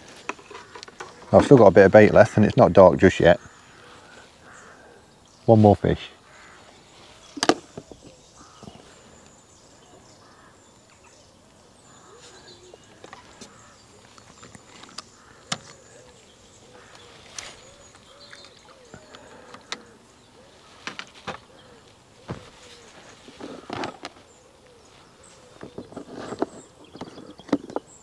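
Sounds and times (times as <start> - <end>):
bird soft low hooting: 3.4 - 5.4, 6.2 - 27.8.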